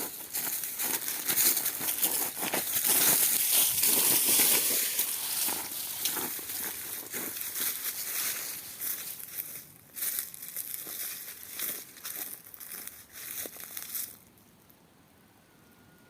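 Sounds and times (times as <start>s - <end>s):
branches scraping: 0.0s - 14.3s
leaves and twigs crunching: 0.0s - 14.3s.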